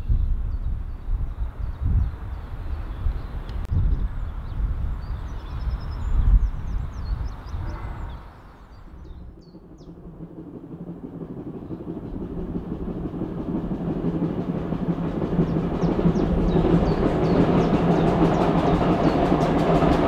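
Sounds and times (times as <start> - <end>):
birds chirping: 0.0 - 20.0
train approaching rumble: 0.0 - 20.0.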